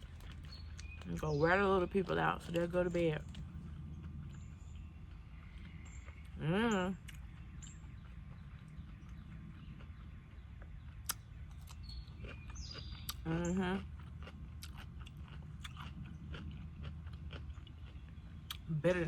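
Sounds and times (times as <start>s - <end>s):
person chewing crunchy pickle: 0.0s - 6.4s, 7.0s - 18.9s.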